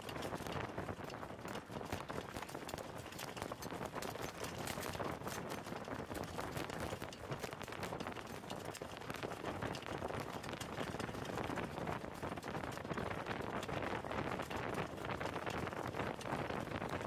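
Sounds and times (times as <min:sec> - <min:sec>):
continuous rush of noise: 0:00.0 - 0:17.0
hooves beating on dirt: 0:00.0 - 0:17.0.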